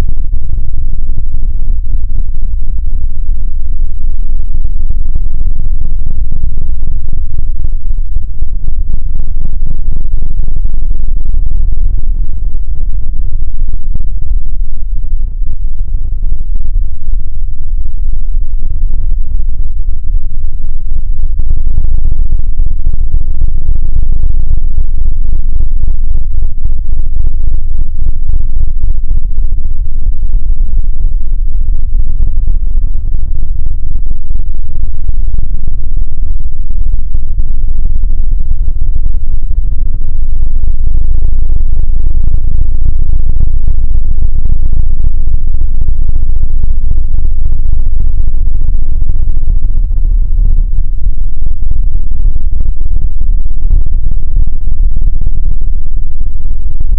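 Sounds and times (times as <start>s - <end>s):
deep distorted rumble: 0.0s - 56.9s.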